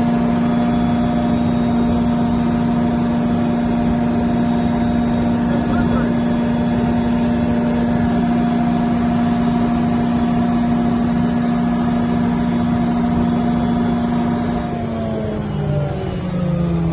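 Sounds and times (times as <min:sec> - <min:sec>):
diesel generator engine running: 0:00.0 - 0:16.9.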